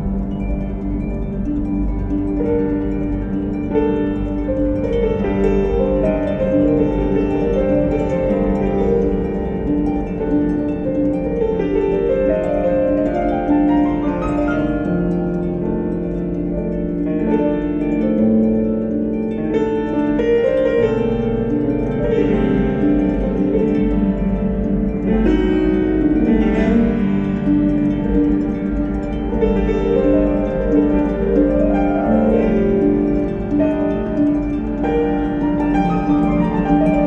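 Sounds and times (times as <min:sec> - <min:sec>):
plucked-string background music: 0:00.0 - 0:37.0.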